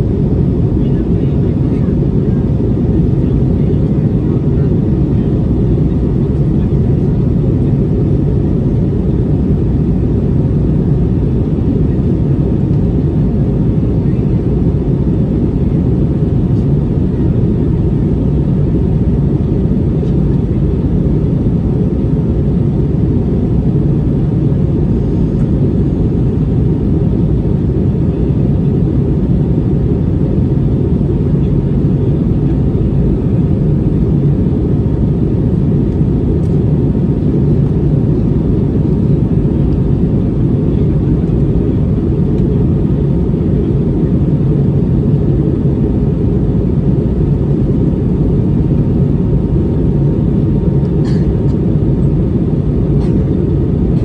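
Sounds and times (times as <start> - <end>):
aircraft engines drone in cabin: 0.0 - 54.0.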